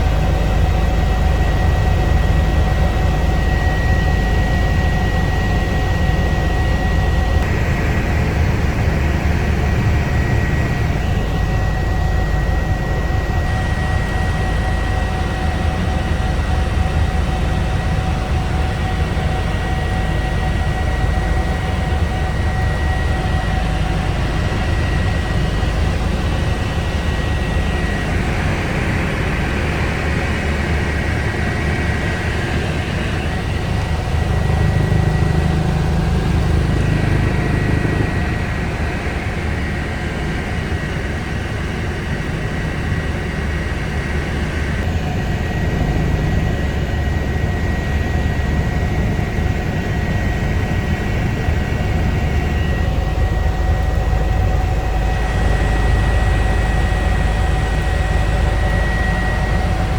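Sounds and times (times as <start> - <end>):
helicopter rotor and engine noise: 0.0 - 59.9.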